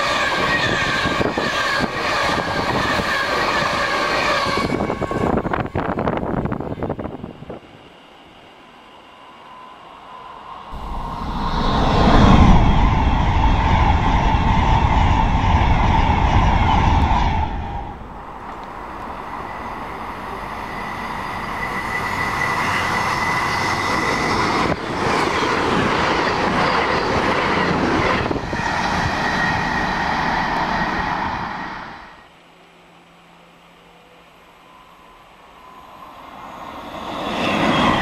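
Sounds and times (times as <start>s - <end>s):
electric train rushing past: 0.0s - 38.0s
express trains passing at speed: 0.0s - 38.0s
high whine of passing train: 0.0s - 38.0s.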